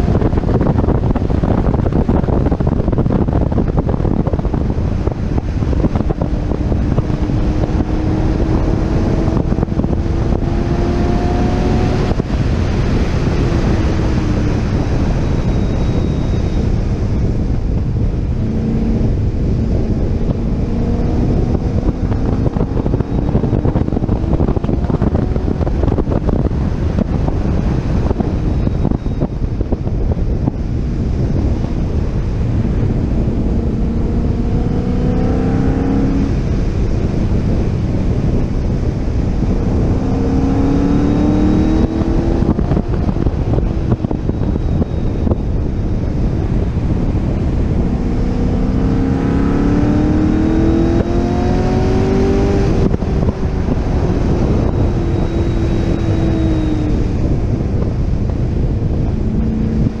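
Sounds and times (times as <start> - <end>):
car engine accelerating hard: 0.0 - 60.0
wind noise on microphone: 0.0 - 60.0.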